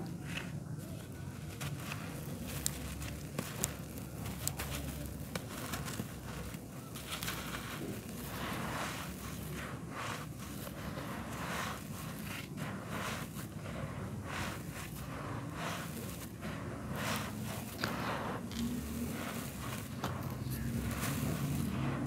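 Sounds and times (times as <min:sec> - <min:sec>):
dry dirt crumbling: 0:00.0 - 0:22.0
soil trickling through fingers: 0:00.3 - 0:22.0.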